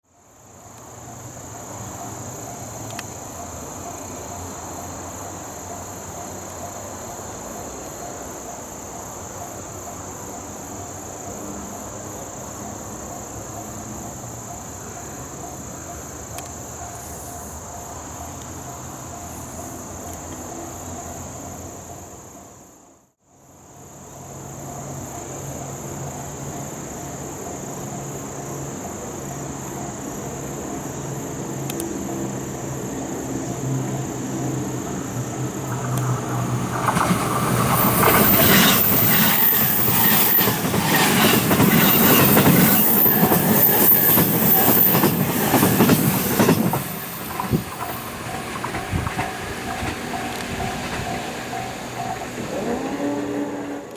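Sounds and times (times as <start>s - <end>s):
insects chirring: 0.2s - 53.9s.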